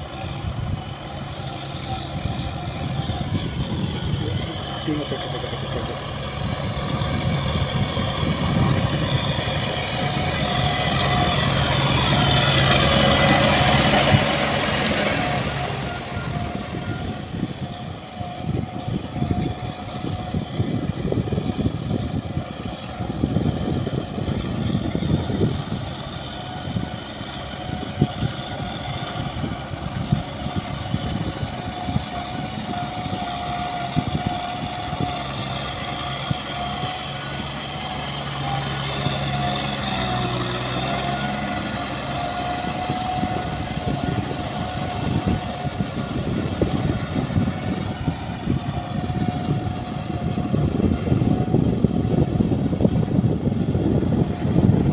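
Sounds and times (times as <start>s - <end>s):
rotary tiller churning mud: 0.0s - 54.9s
tractor diesel engine under load: 0.0s - 54.9s.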